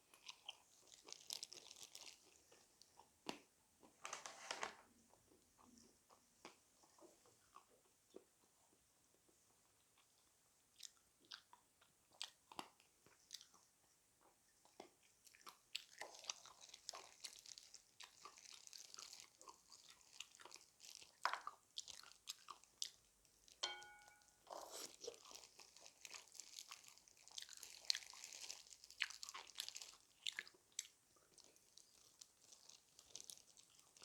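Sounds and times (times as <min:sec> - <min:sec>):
person chewing crunchy food: 0:00.0 - 0:03.9, 0:09.2 - 0:34.0.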